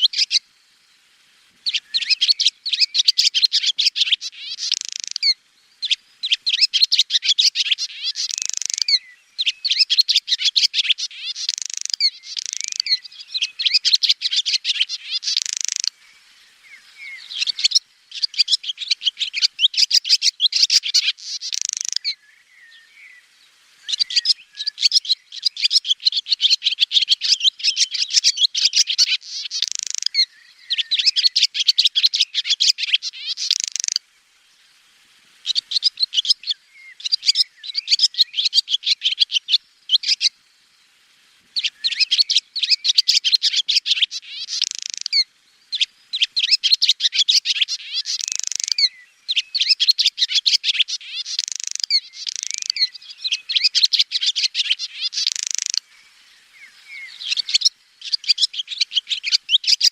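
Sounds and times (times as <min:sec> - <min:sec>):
swallow twittering: 0:00.0 - 0:00.4, 0:01.6 - 0:34.0, 0:35.4 - 0:40.4, 0:41.6 - 0:59.9.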